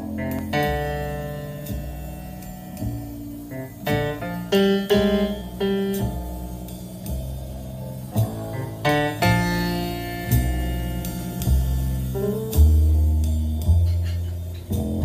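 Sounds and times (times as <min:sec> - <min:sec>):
instrumental music over loudspeakers: 0:00.0 - 0:15.0.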